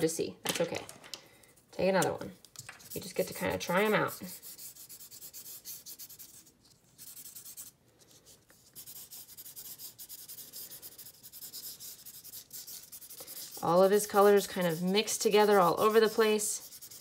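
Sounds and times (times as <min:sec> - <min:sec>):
marker scratching on paper: 0:02.8 - 0:17.0.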